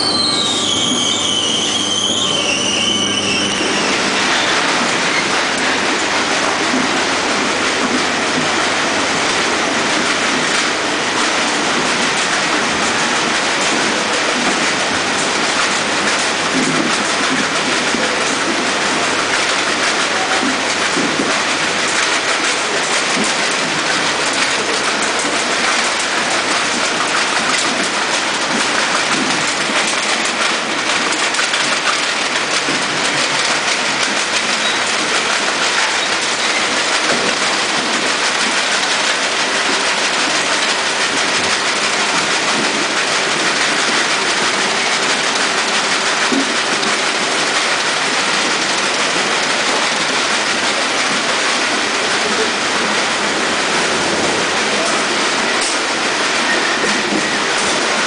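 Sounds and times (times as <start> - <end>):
conveyor machinery clattering: 0.0 - 58.0.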